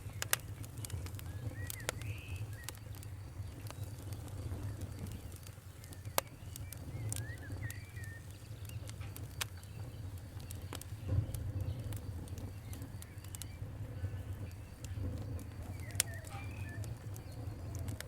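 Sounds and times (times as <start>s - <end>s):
bird chirping: 0.0s - 17.9s
campfire crackling: 0.0s - 18.0s.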